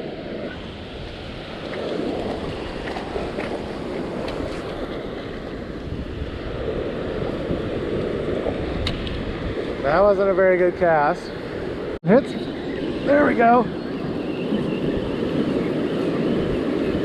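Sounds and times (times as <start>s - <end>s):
ocean surf washing on beach: 0.0s - 17.0s
wind buffeting microphone: 0.0s - 17.0s.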